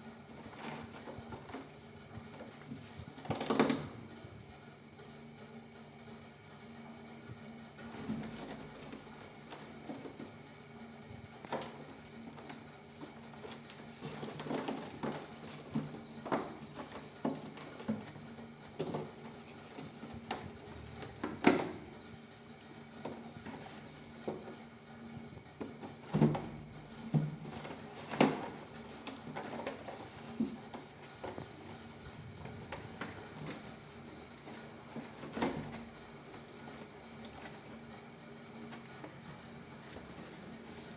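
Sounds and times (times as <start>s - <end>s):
kittens scuffling and knocking: 0.0s - 4.4s, 7.7s - 40.9s.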